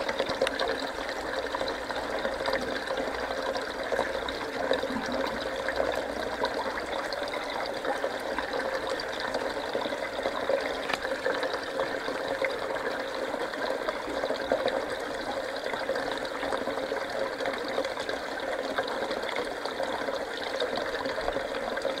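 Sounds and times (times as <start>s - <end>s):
water trickling in fish tank: 0.0s - 22.0s.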